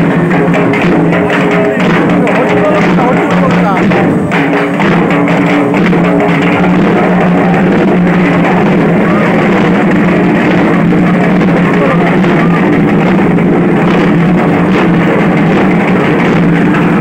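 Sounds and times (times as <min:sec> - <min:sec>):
loud continuous drumming: 0:00.0 - 0:17.0.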